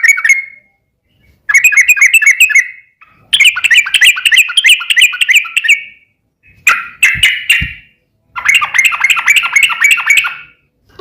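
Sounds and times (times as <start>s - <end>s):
bulbul singing rolling song: 0.0s - 10.9s.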